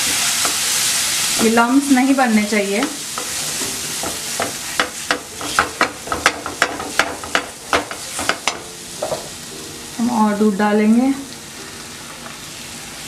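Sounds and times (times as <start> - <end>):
sizzling in a pan: 0.0 - 13.0.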